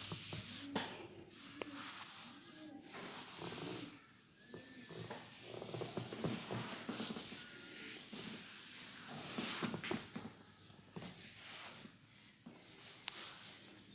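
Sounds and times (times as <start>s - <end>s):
hands rubbing skin and hair: 0.0s - 4.2s, 5.2s - 10.3s, 11.0s - 13.9s.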